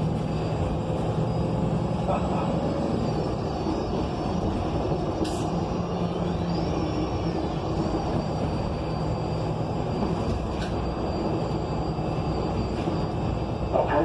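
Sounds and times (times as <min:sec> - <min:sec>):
bus drivetrain and road noise: 0:00.0 - 0:14.0.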